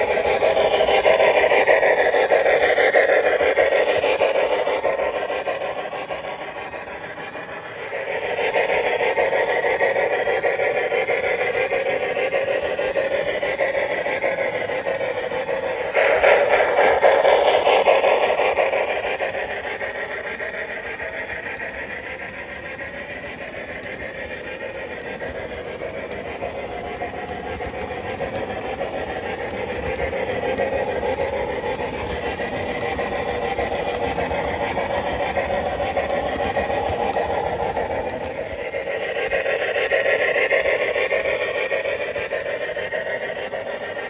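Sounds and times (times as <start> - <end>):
model train rapid clatter: 0.0 - 44.0.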